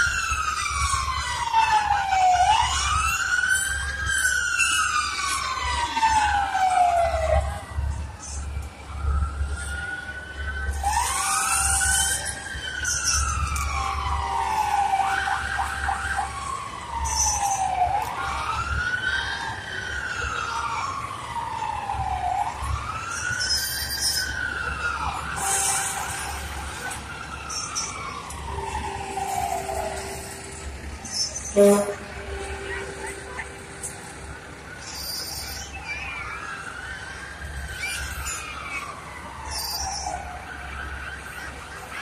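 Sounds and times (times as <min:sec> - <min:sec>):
siren wailing: 0:00.0 - 0:42.0.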